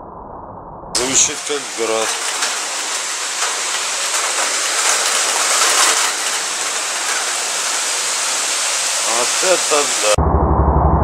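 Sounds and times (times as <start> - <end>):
heavy rain hissing: 1.0 - 10.2.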